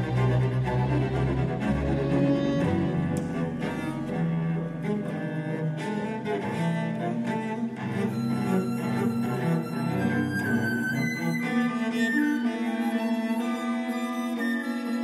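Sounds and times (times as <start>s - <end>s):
cello and orchestra playing: 0.0s - 15.0s.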